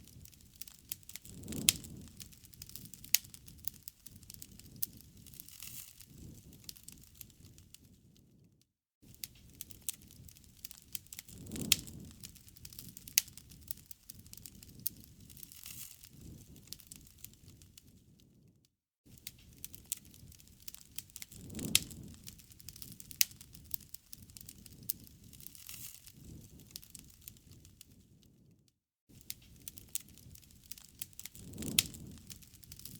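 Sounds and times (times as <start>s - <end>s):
campfire crackling and popping: 0.0s - 8.3s, 9.1s - 18.1s, 19.1s - 28.4s, 29.1s - 32.9s.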